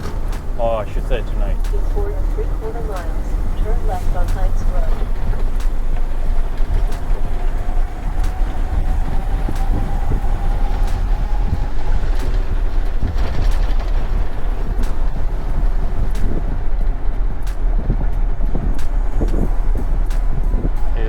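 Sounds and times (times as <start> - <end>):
truck engine and tyres rumbling: 0.0 - 21.0.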